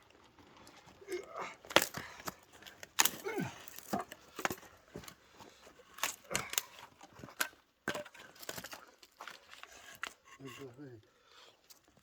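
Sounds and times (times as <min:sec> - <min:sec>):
firewood clicks and knocks: 0:00.1 - 0:10.8.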